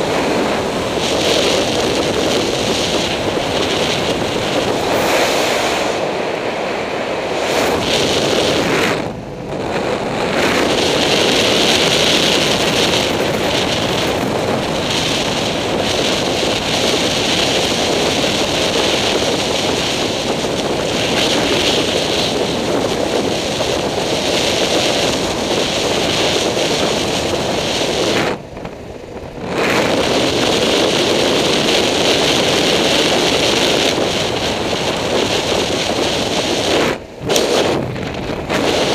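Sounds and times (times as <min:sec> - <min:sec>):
road and motor noise: 0:00.0 - 0:38.9
wind rushing on microphone: 0:00.0 - 0:38.9.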